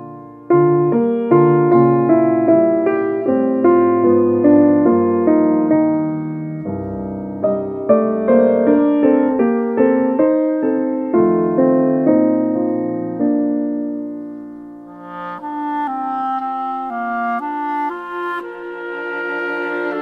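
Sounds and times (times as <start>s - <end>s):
slow gentle piano melody: 0.0s - 20.0s.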